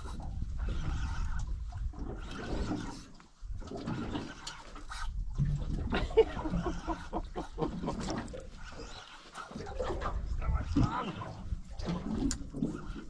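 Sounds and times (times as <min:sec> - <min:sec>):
fish thrashing and splashing water: 0:00.0 - 0:13.0.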